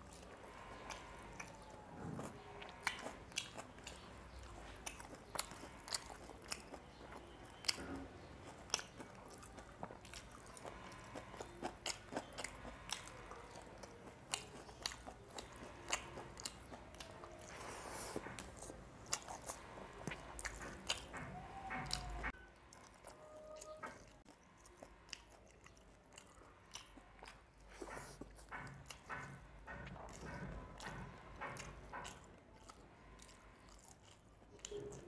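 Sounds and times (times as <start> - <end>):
chewing and biting food: 0.0 - 35.0.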